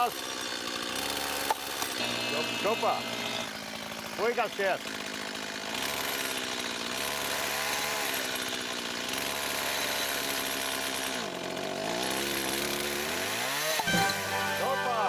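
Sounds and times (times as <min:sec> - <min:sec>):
chainsaw running at full throttle: 0:00.0 - 0:14.8.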